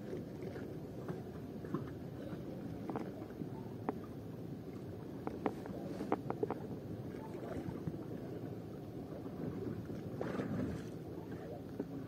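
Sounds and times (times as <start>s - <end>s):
sea noise: 0.0s - 12.0s
wind: 0.0s - 12.0s.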